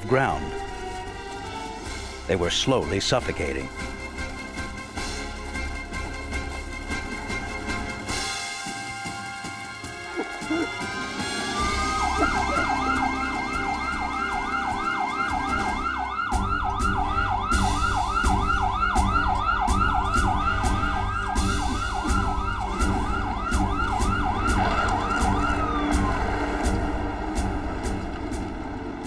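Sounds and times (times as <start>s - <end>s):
truck engine running low: 3.7s - 29.0s
fire engine siren yelping: 3.8s - 29.0s
wailing siren: 5.6s - 29.0s.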